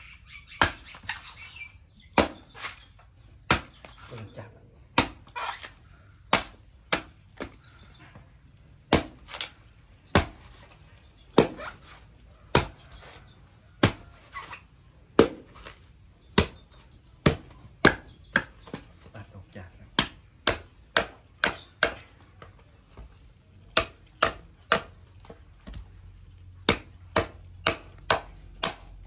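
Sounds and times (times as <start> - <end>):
knife chopping coconut husk: 0.6 - 1.4, 2.1 - 8.2, 8.8 - 19.3, 19.9 - 23.1, 23.7 - 25.8, 26.6 - 29.0.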